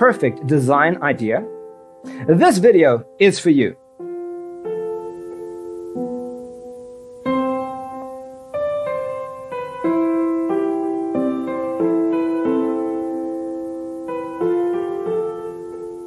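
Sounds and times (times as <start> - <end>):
piano playing slow chords: 0.0 - 16.0.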